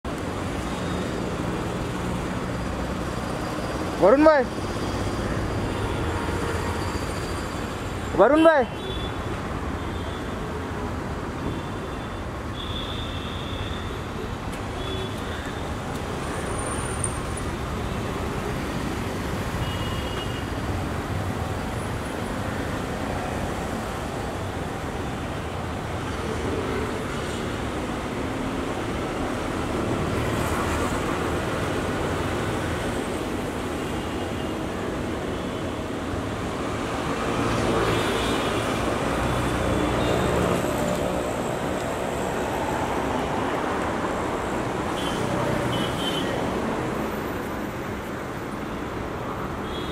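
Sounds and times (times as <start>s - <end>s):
street traffic rumble: 0.0s - 49.9s.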